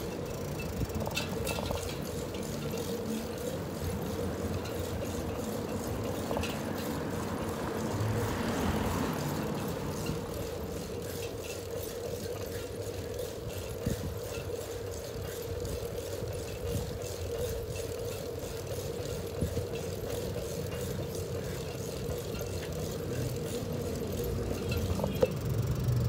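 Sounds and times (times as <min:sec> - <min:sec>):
constant hum: 0:00.0 - 0:26.0
wind and tyre noise: 0:00.0 - 0:26.0.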